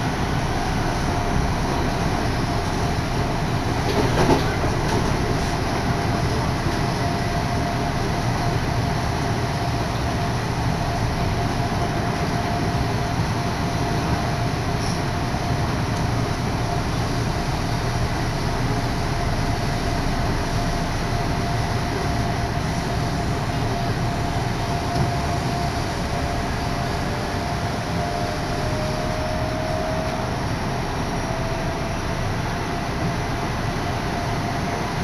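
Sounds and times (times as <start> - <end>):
train rolling rumble: 0.0 - 35.0.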